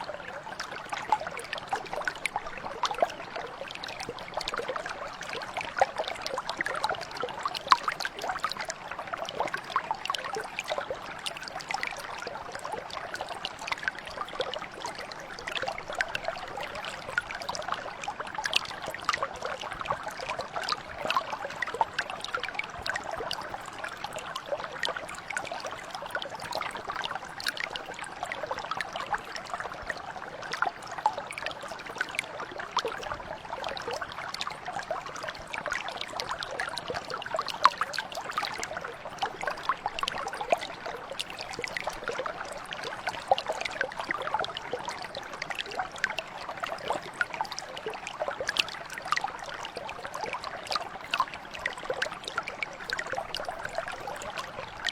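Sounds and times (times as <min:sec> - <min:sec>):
brook babbling over stones: 0:00.0 - 0:54.9.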